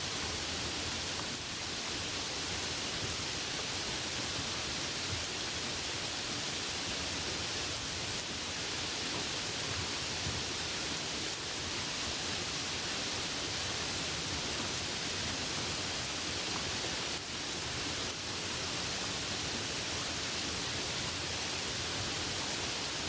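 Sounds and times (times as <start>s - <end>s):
light rain falling: 0.0s - 23.0s.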